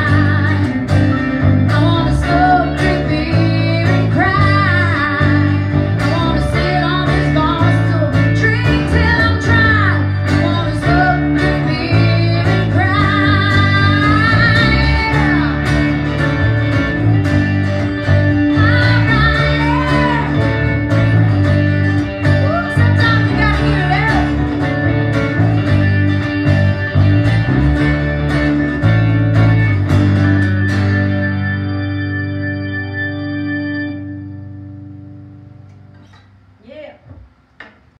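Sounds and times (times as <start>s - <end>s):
strummed acoustic guitar: 0.0s - 36.1s
bending lead guitar line: 0.0s - 36.2s
acoustic bass guitar: 0.0s - 36.4s.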